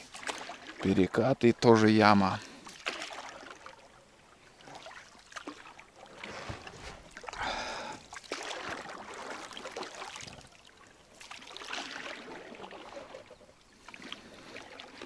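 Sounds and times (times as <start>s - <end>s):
water splashing around boat: 0.0s - 15.0s.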